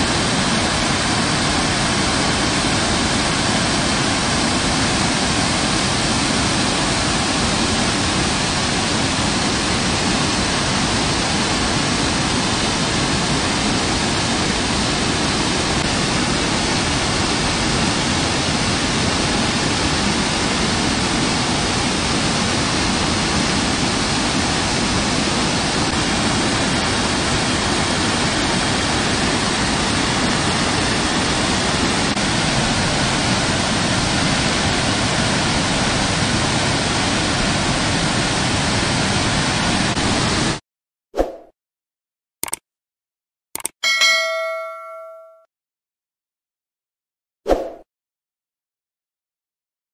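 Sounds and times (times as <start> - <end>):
water rushing over a weir: 0.0 - 40.6.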